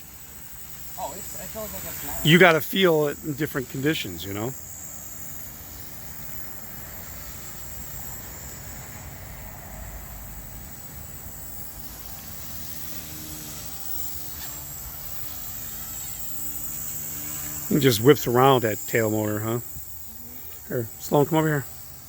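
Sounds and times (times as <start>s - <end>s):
rc helicopter motor whine: 0.0s - 22.0s.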